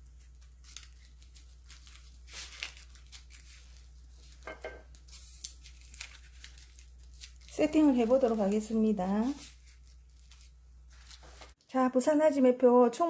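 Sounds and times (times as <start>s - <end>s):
seaweed sheets crinkling: 0.0s - 11.6s.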